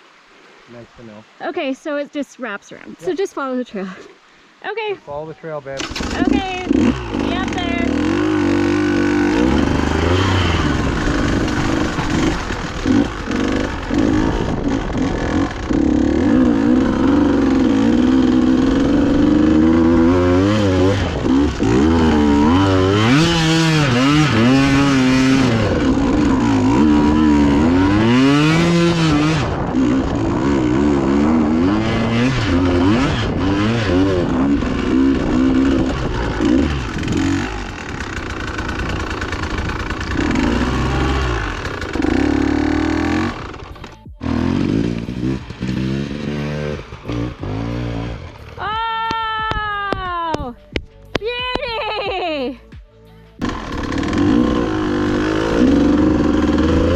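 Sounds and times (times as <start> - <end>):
dirt bike engine revving: 5.8 - 48.7, 53.4 - 56.9.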